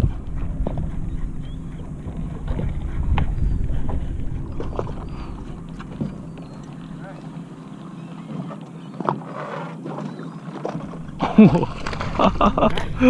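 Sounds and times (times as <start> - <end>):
wind buffeting microphone: 0.0 - 8.6, 10.7 - 13.0
boat motor humming: 0.0 - 13.0.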